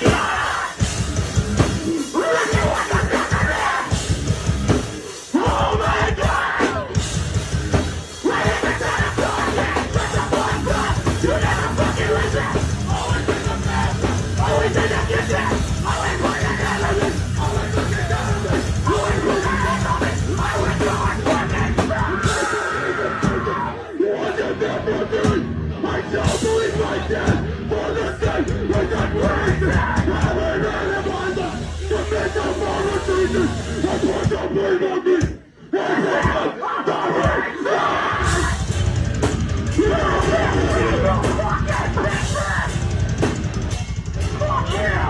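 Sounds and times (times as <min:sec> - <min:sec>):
heavy rock band playing: 0:00.0 - 0:45.0
yelled vocals: 0:00.0 - 0:45.0.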